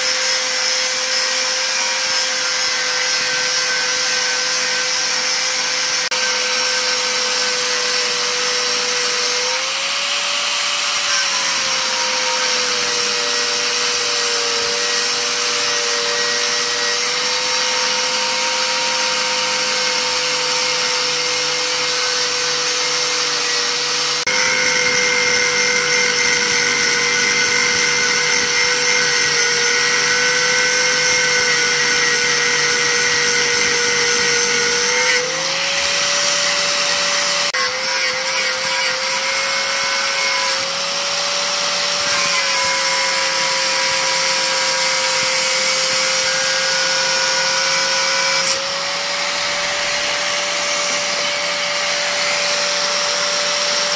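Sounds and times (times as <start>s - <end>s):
angle grinder cutting steel: 0.0s - 53.9s.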